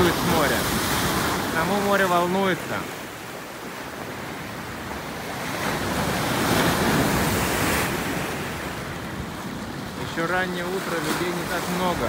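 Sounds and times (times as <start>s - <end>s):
waves breaking on the shore: 0.0s - 12.0s.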